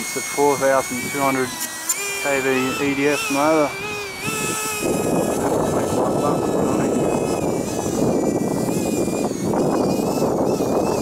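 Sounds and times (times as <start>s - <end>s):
electric fan motor whine: 0.0s - 11.0s.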